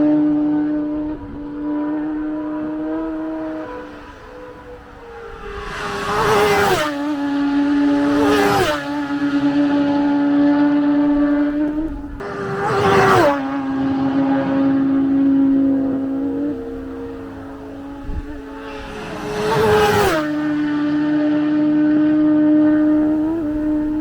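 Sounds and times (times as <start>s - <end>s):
racing motorcycles passing by: 0.0s - 24.0s
steady high engine note: 2.1s - 24.0s.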